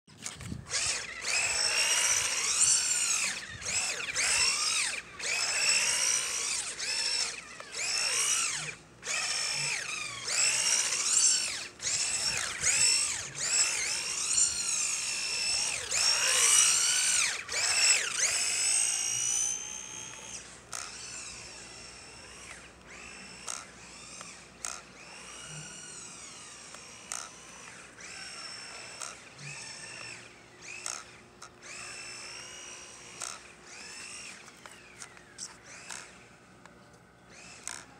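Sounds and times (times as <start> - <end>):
electric motor and gears whining: 0.1 - 37.9.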